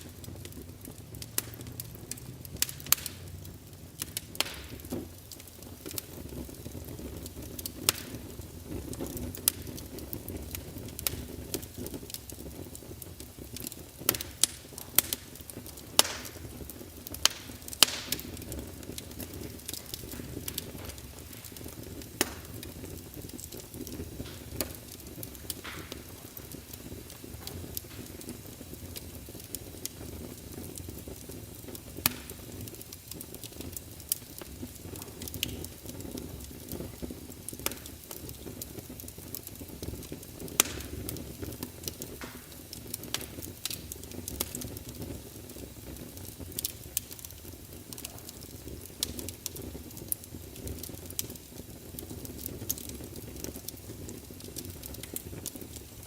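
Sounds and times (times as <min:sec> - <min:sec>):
logs crackling and popping: 0:00.0 - 0:56.0
low rumble of flame: 0:00.0 - 0:56.0.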